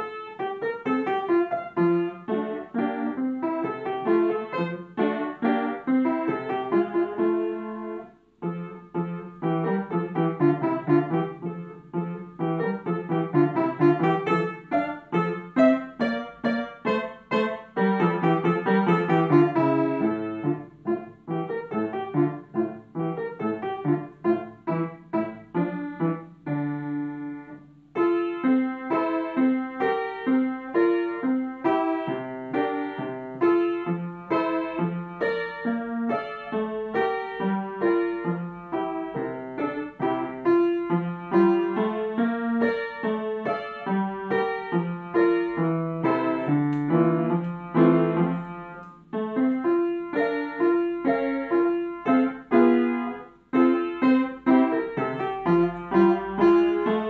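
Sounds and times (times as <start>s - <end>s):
upright piano playing: 0.0s - 57.0s.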